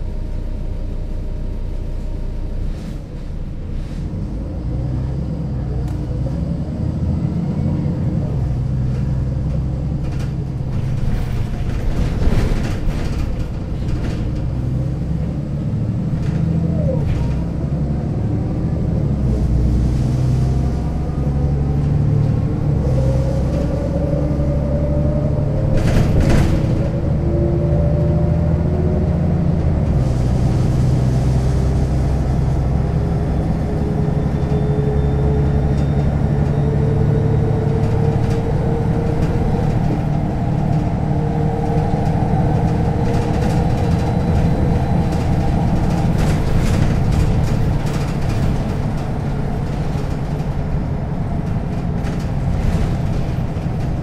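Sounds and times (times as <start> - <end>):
diesel bus engine rumbling: 0.0 - 54.0.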